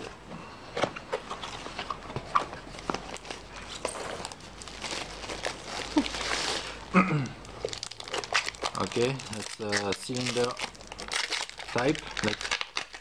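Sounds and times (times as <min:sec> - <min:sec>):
foam and plastic rustling: 0:01.3 - 0:13.0.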